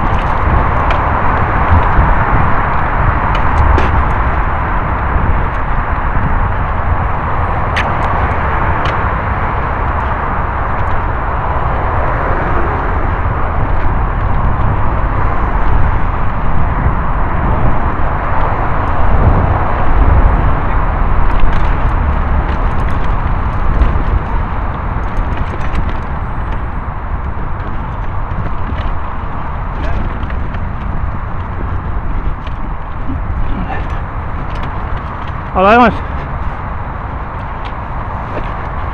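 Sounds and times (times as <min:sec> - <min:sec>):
bike clicks and rattles: 0:00.0 - 0:38.9
tyres rumbling on dirt trail: 0:00.0 - 0:38.9
wind rush: 0:00.0 - 0:38.9.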